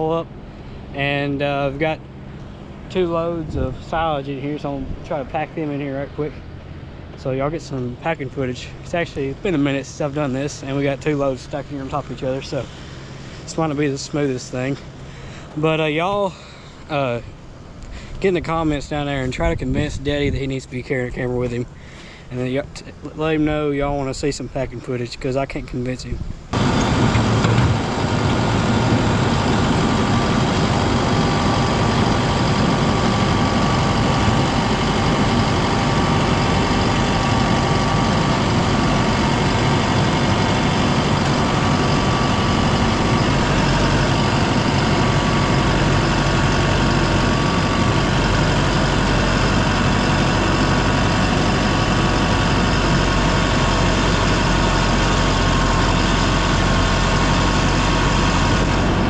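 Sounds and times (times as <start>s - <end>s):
tractor engine running loudly: 0.0s - 16.9s, 26.5s - 59.0s.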